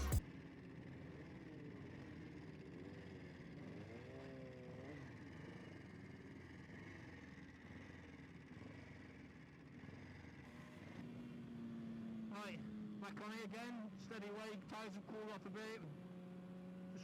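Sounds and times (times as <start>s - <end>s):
faint motorcycle engine: 0.0s - 17.0s.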